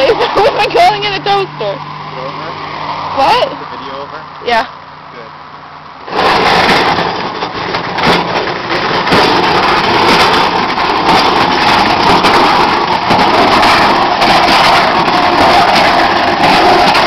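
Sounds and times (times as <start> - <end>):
metal scraping on pavement: 0.0 - 17.0.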